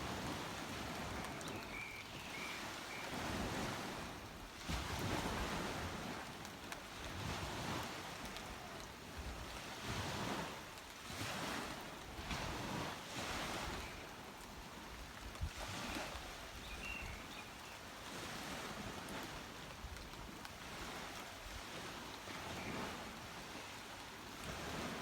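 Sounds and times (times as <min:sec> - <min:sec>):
small waves washing onto beach: 0:00.0 - 0:25.0.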